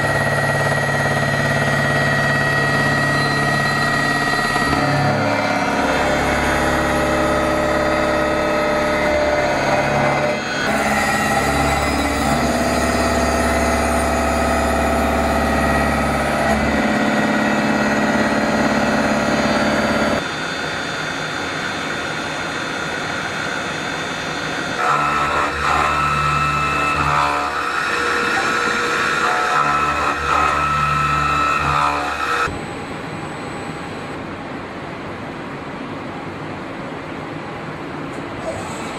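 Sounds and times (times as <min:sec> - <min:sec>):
machine whining tones: 0:00.0 - 0:34.4
machine hum: 0:00.0 - 0:38.9.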